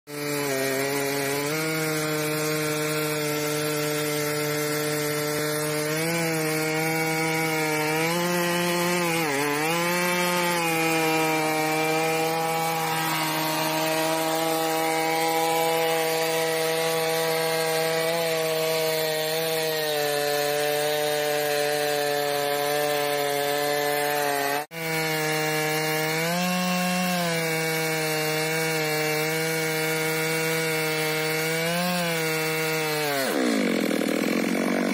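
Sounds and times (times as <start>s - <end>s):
chainsaw cutting a log: 0.1s - 34.9s.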